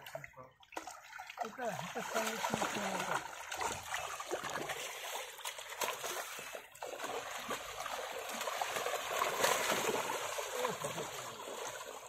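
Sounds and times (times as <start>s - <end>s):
water splashing and sloshing: 0.0s - 12.0s
fish splashing in net: 0.8s - 12.0s.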